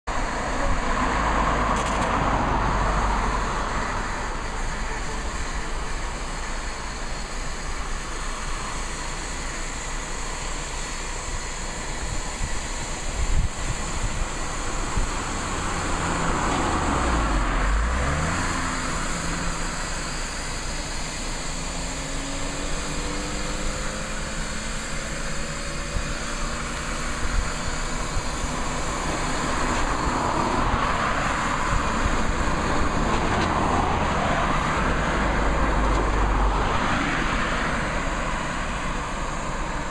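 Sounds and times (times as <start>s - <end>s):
road traffic passing: 0.0s - 39.9s
engine rising tone: 0.1s - 39.9s.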